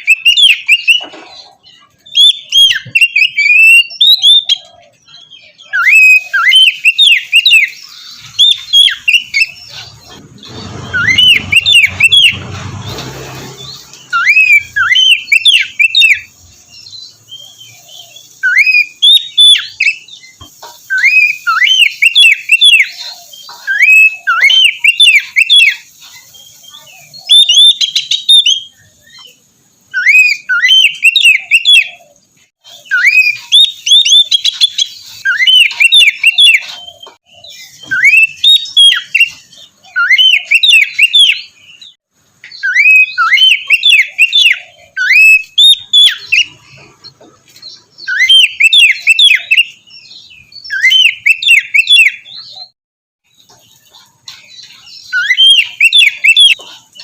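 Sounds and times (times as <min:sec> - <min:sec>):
bird singing whistled notes: 0:00.0 - 0:01.1, 0:01.8 - 0:46.9, 0:47.6 - 0:52.8, 0:54.4 - 0:57.0.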